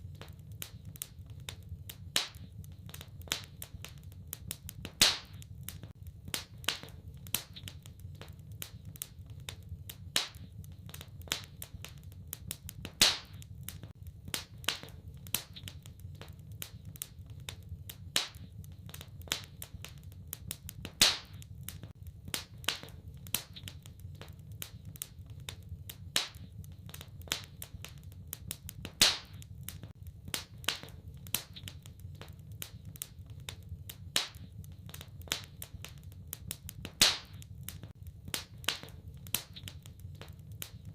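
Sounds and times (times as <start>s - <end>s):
fire crackling and popping: 0.0s - 40.9s
low rumble of burning: 0.0s - 40.9s.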